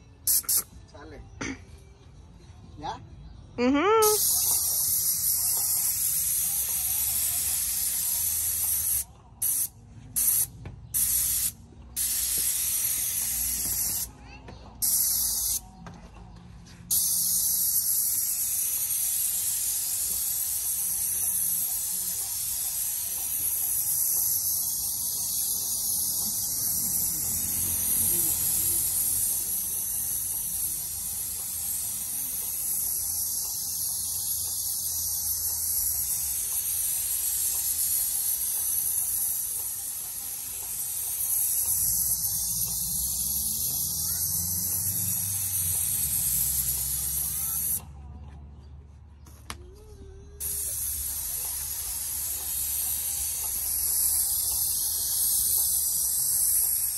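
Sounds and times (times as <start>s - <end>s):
paint sprayer hissing: 0.2s - 0.8s, 4.0s - 15.8s, 16.6s - 47.9s, 50.3s - 56.9s.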